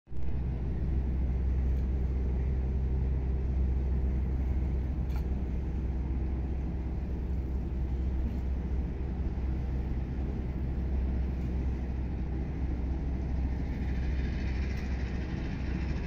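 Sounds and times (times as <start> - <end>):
marine engine rumbling: 0.1 - 16.0.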